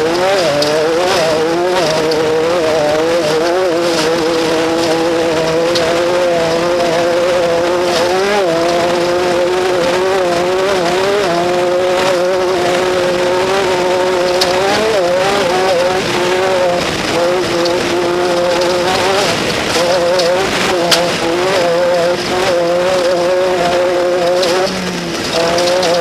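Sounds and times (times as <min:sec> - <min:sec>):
race vehicle engine revving high: 0:00.0 - 0:26.0.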